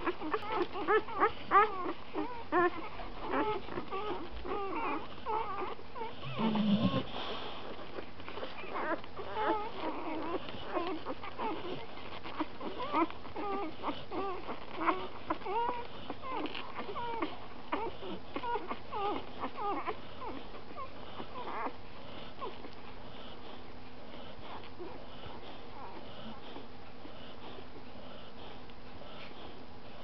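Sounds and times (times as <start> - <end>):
puppies whimpering and squeaking: 0.0 - 30.0.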